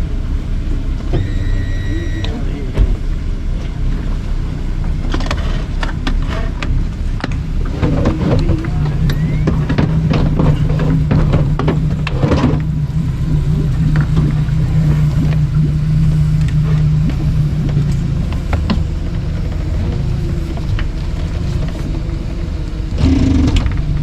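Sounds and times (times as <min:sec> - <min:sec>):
engine running at low speed: 0:00.0 - 0:24.0.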